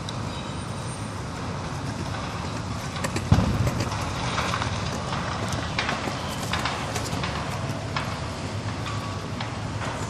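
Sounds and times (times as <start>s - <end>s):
crane engine running: 0.0s - 10.0s.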